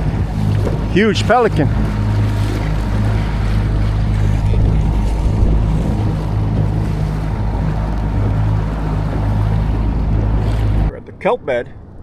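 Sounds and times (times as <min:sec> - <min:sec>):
wind noise: 0:00.0 - 0:10.9
outboard motor droning: 0:00.0 - 0:12.0
rushing water: 0:00.0 - 0:12.0.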